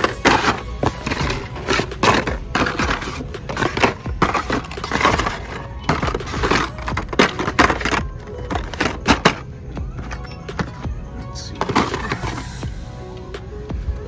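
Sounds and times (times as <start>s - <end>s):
plastic blister packs clacking: 0.0s - 10.8s, 11.5s - 12.5s.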